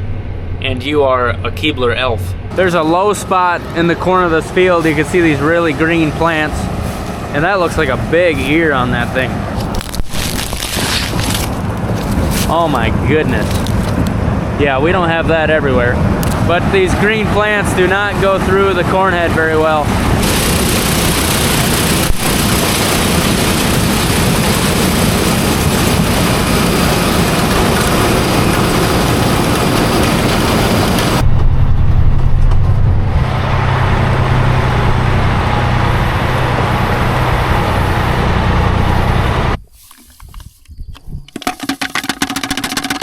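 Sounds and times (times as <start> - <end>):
deep engine rumble: 0.0 - 39.6
combine harvester running: 0.0 - 40.0.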